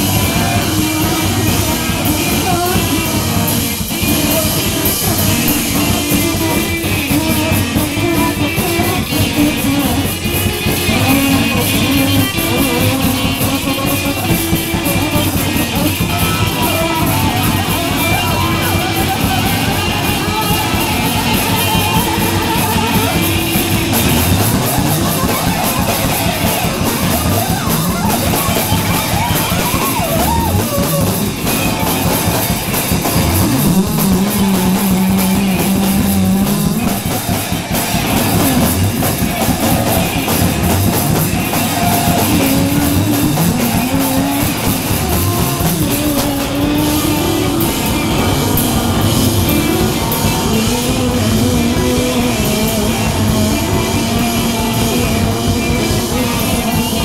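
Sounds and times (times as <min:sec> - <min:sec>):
live rock band playing: 0:00.0 - 0:57.0
person singing through pa: 0:00.0 - 0:57.0.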